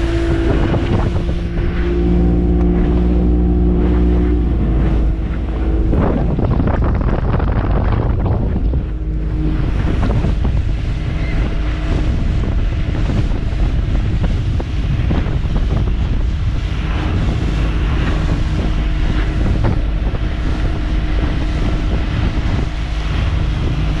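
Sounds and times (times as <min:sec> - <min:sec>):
outboard motor running: 0:00.0 - 0:24.0
water and spray rushing: 0:00.0 - 0:24.0
wind buffeting microphone: 0:00.0 - 0:24.0.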